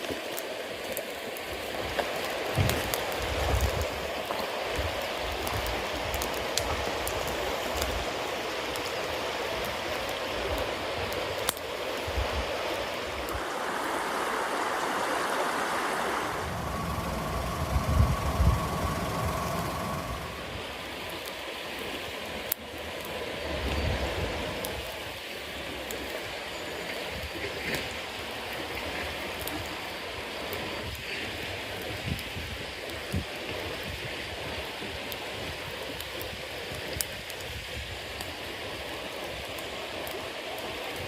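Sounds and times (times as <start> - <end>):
bonfire hissing: 0.0 - 41.0
fire crackling: 0.0 - 41.0.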